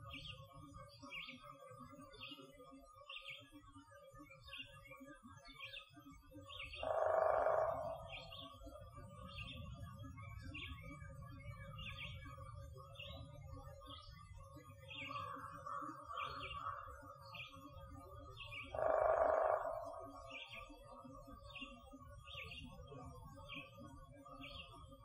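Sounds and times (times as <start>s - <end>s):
songbird chirping: 4.4s - 25.0s.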